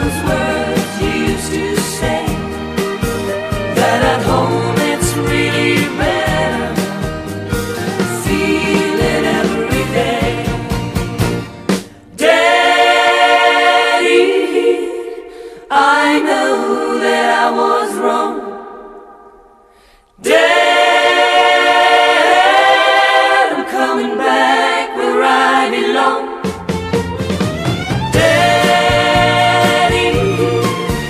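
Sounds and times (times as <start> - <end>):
unaccompanied voices singing chords: 0.0 - 10.9, 12.1 - 26.5, 28.1 - 31.0.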